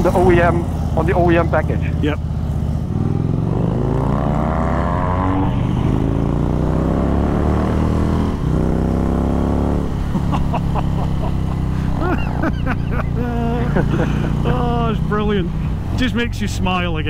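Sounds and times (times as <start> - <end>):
motorcycle accelerating through gears: 0.0 - 16.7.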